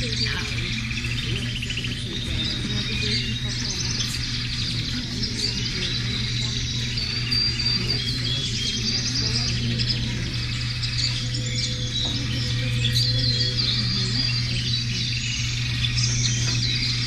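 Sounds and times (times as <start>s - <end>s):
birdsong: 0.0s - 17.0s
insects chirping: 0.0s - 17.0s
steady low hum: 0.0s - 17.0s.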